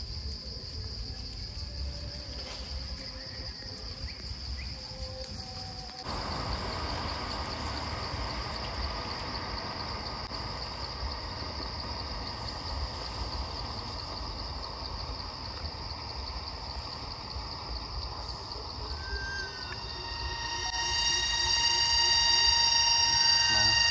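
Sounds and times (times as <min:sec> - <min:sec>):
insects buzzing: 0:00.0 - 0:23.9.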